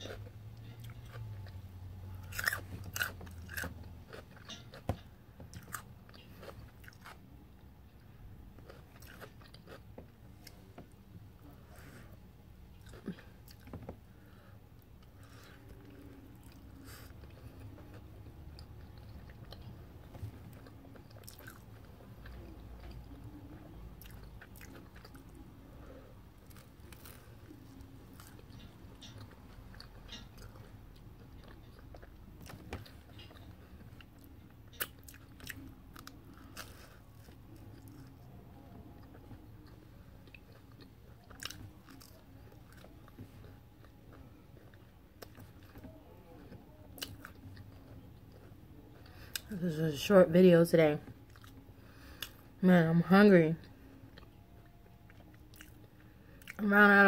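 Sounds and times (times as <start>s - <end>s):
person chewing crunchy bread: 0.0s - 49.5s, 51.1s - 52.6s, 53.6s - 56.6s.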